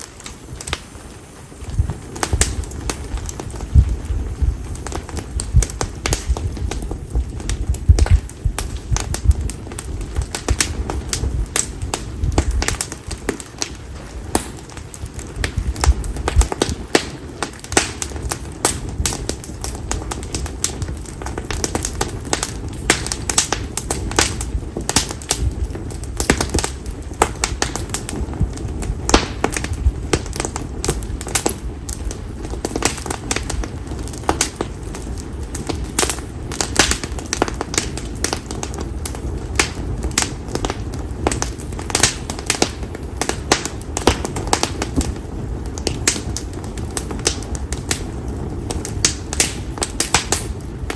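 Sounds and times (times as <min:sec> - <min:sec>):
firewood crackling and popping: 0:00.0 - 0:50.9
low rush of flames: 0:00.0 - 0:50.9.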